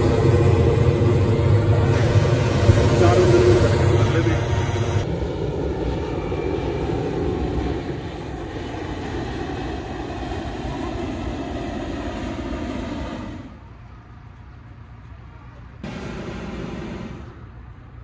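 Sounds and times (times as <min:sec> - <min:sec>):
propane burner rushing: 0:00.0 - 0:13.6, 0:15.8 - 0:17.6.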